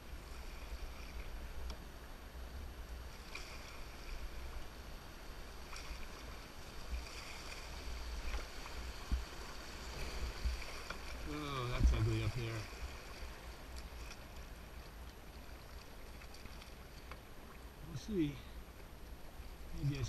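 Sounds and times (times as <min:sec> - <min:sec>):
river rushing and splashing: 0:00.0 - 0:18.4.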